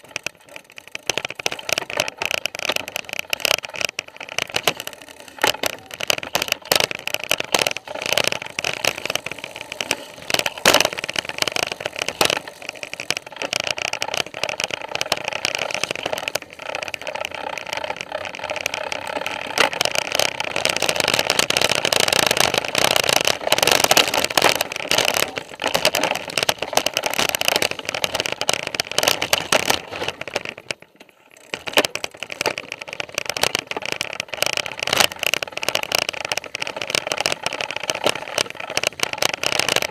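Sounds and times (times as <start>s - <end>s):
bike frame rattling: 0.0s - 39.9s.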